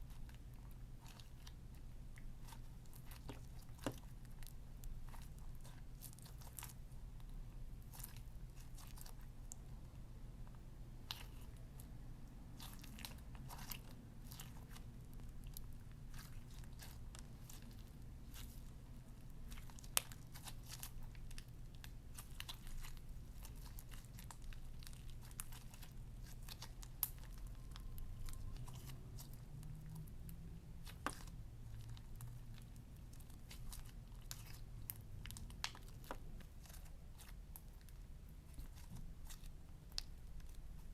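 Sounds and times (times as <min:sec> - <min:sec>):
slime clicking and crackling: 0:00.0 - 0:09.7, 0:11.0 - 0:11.9, 0:12.6 - 0:18.7, 0:19.3 - 0:40.9
faint low hum: 0:00.0 - 0:40.9.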